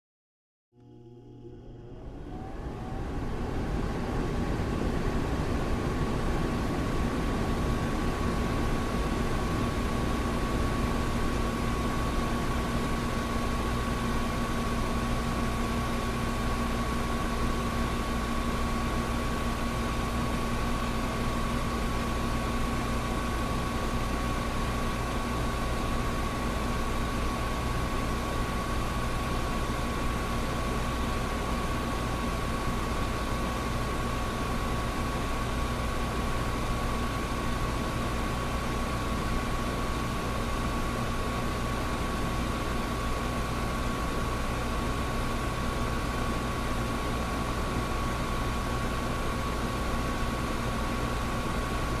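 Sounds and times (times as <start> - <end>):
air conditioner running: 0.8 - 52.0.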